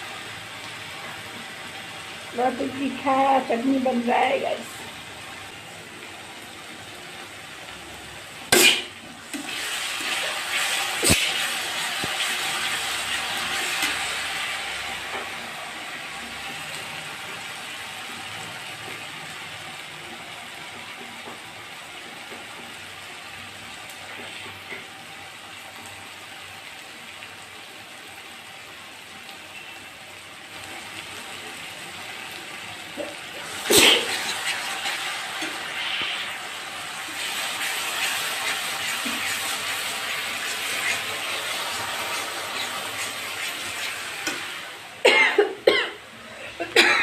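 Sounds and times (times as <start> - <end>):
chutney sizzling in a pan: 0.0 - 47.0.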